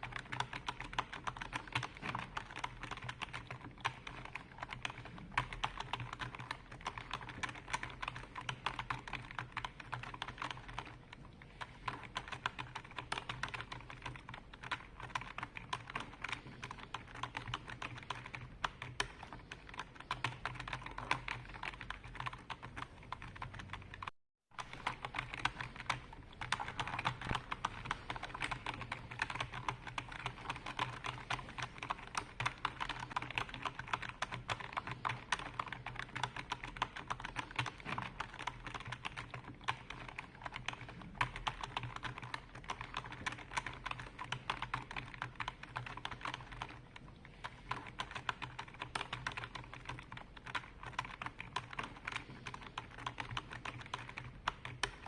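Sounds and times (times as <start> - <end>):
keyboard typing clicks: 0.0 - 46.8.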